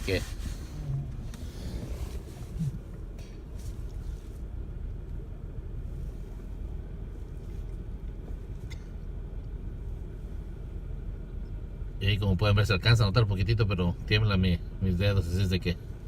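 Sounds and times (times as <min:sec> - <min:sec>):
rough-running car engine idling: 0:00.0 - 0:16.0.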